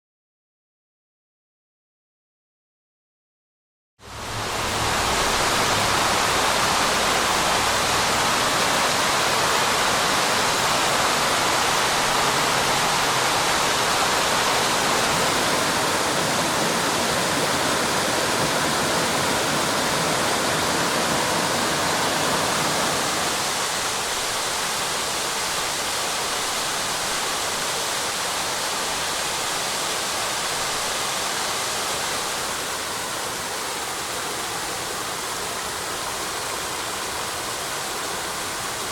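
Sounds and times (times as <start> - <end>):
waterfall rushing: 4.0 - 38.9.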